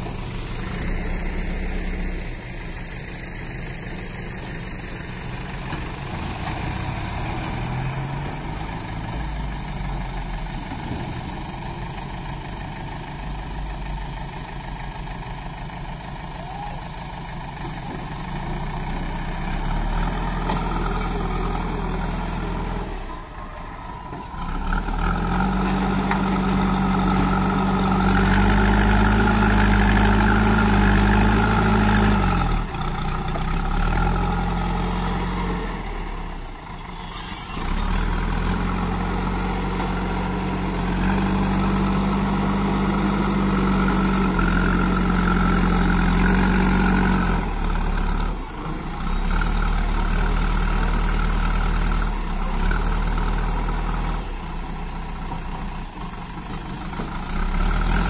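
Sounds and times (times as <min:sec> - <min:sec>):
backhoe diesel engine revving: 0:00.0 - 0:58.0.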